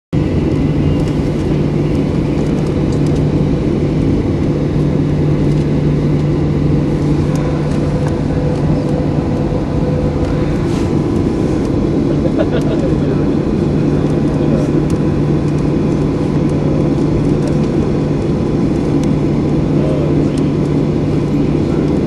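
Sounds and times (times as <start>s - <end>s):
jet engines humming: 0.1s - 22.0s.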